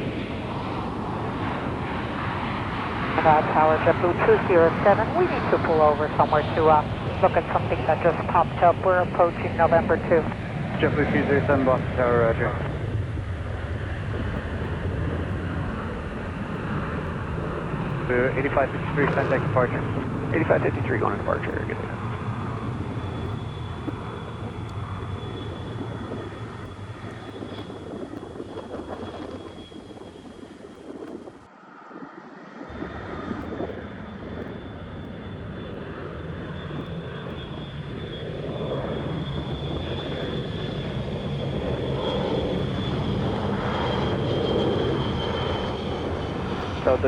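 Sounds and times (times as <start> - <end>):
jet engines whining and rumbling: 0.0 - 47.0.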